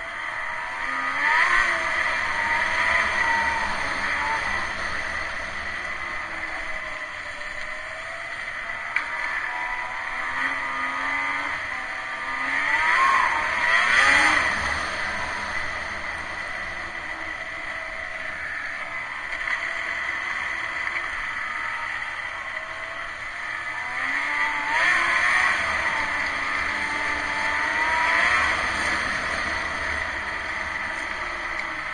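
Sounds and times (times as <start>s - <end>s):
snowmobile engine revving: 0.0s - 31.9s.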